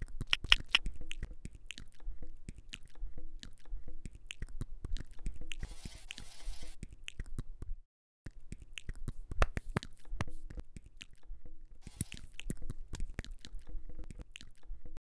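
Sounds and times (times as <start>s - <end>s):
chewing clicks and wet smacks: 0.0s - 5.6s, 6.8s - 7.7s, 8.3s - 15.0s.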